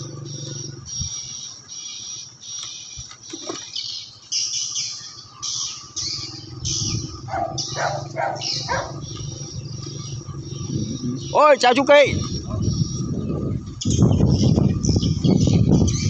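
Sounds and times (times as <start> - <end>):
electric bicycle faint hum: 0.0 - 3.2, 3.8 - 16.0
birds chirping: 0.0 - 16.0.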